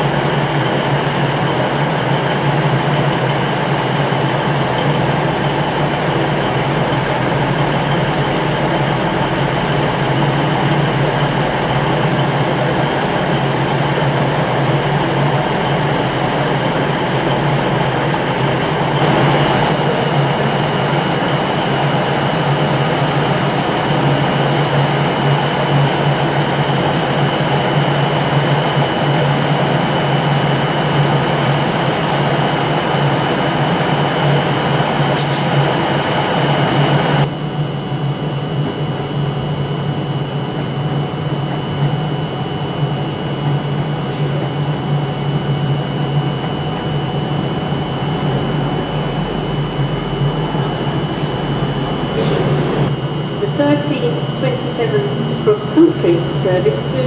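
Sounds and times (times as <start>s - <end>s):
diesel train arriving: 0.0s - 57.0s
railbus engine drone: 0.0s - 57.0s.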